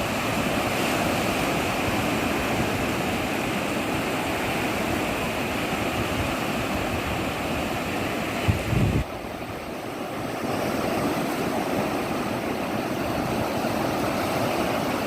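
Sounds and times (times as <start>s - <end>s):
sea surf washing onto beach: 0.0s - 15.0s.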